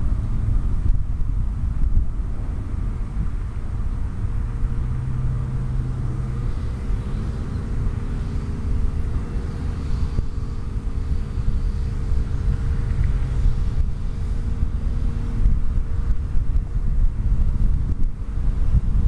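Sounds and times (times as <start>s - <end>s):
distant motor traffic hum: 0.0s - 19.0s.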